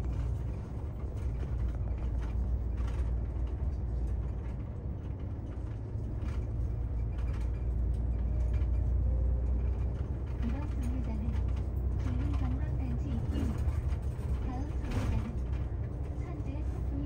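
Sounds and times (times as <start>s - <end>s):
bus rumbling on the road: 0.0s - 17.0s.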